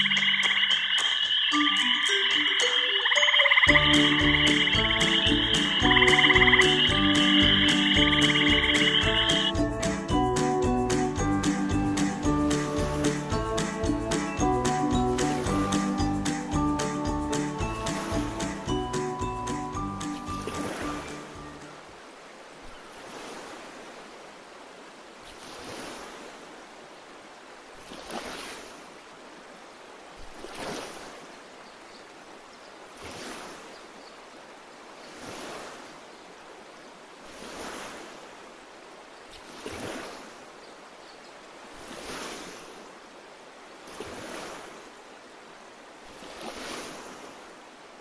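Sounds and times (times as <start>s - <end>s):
waves washing in: 0.0s - 31.4s, 32.9s - 33.9s, 34.5s - 40.6s, 41.5s - 48.0s.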